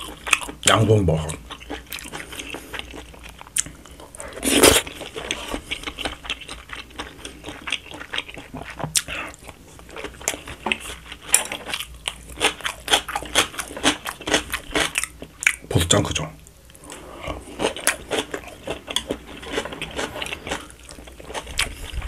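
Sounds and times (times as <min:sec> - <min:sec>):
person chewing noodles: 0:00.0 - 0:15.7, 0:16.6 - 0:22.0.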